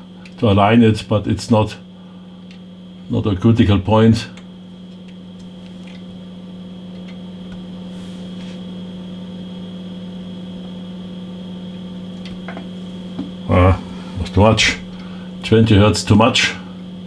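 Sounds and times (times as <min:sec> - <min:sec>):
electrical hum with hiss: 0:00.0 - 0:17.0.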